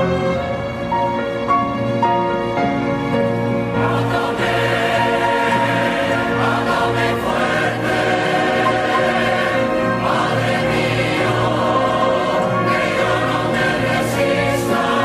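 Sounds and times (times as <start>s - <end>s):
mixed choir singing sustained chords: 0.0s - 15.0s.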